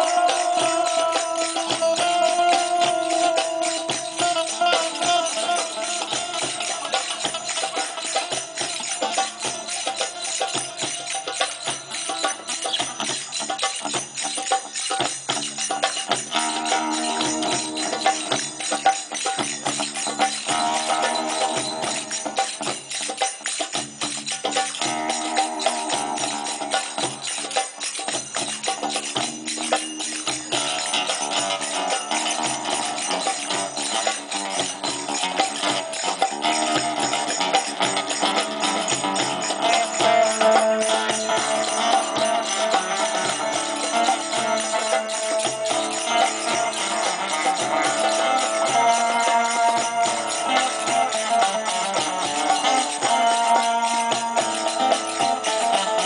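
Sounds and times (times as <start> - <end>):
jingling percussion rhythm: 0.0 - 56.0
melody from pitched instruments: 0.0 - 56.0.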